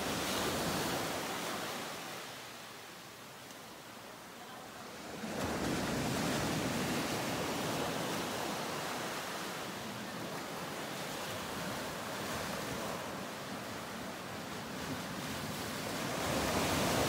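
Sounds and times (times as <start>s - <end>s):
ocean surf washing on shore: 0.0s - 17.0s.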